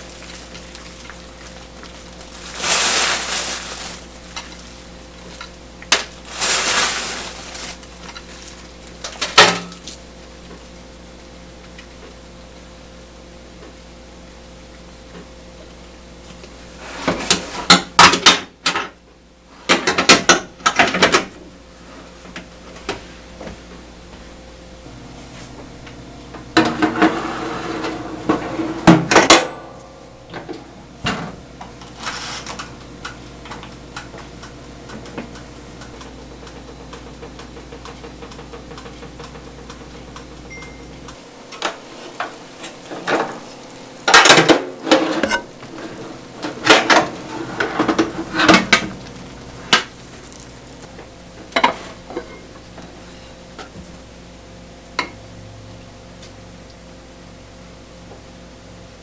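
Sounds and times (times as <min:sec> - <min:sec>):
low appliance hum: 0:00.0 - 0:59.0.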